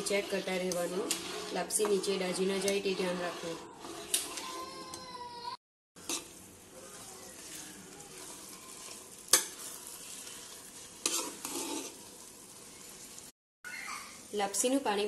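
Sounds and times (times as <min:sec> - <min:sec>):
steady sizzle: 0:00.0 - 0:04.8, 0:06.0 - 0:15.0
metal spoon stirring in pot: 0:00.0 - 0:05.0, 0:06.0 - 0:13.2.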